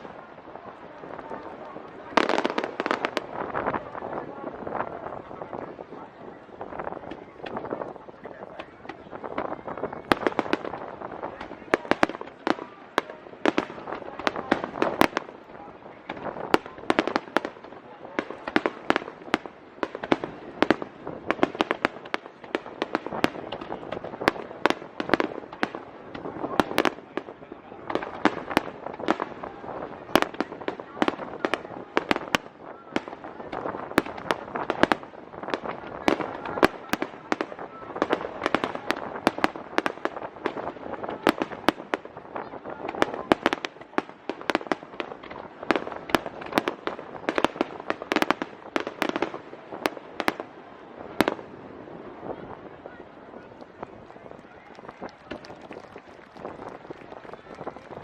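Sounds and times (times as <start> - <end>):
crackling hiss: 0.0 - 58.0
fireworks bursting: 0.0 - 58.0.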